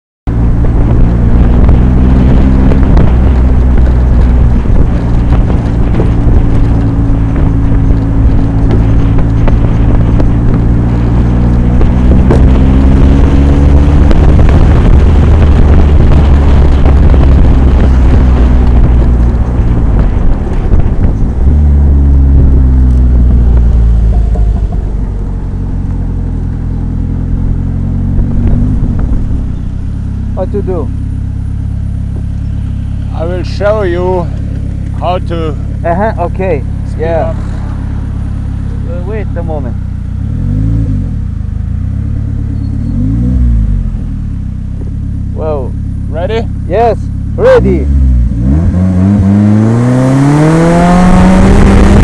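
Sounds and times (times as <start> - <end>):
wind noise on microphone: 0.3 - 45.2, 47.4 - 52.0.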